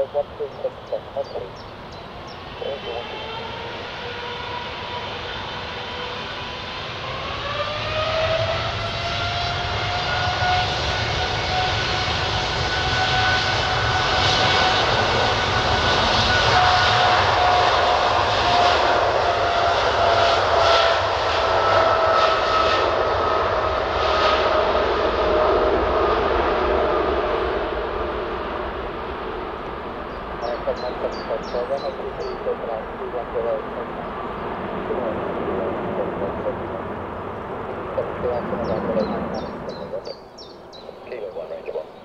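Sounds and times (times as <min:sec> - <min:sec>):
jet engine rumble: 0:00.0 - 0:42.0
jet engine whine: 0:00.0 - 0:42.0.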